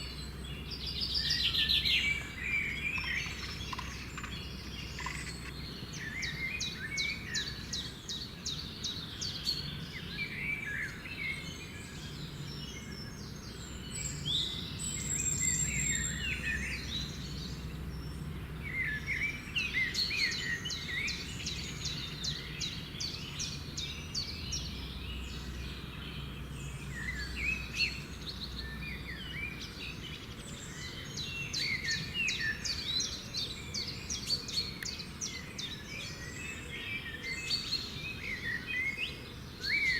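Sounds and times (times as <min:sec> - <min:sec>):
birds chirping and calling: 0:00.8 - 0:17.6, 0:18.7 - 0:39.9.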